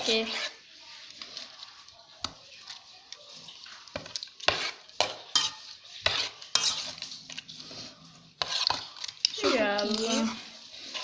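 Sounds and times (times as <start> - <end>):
spoon scraping in a dish: 0.0 - 11.0.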